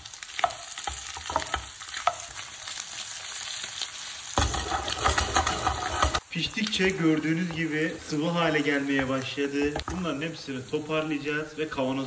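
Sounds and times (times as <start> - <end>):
fat sizzling in a frying pan: 0.0 - 12.0.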